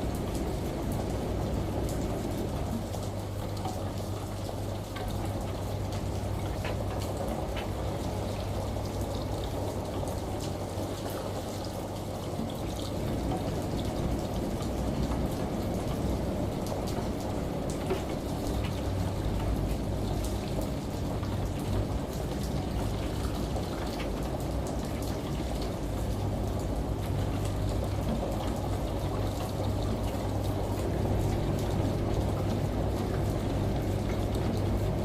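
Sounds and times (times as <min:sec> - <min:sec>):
constant low hum: 0:00.0 - 0:35.0
running water: 0:00.0 - 0:35.0
steady rain: 0:00.0 - 0:35.0
water drips: 0:00.0 - 0:35.0.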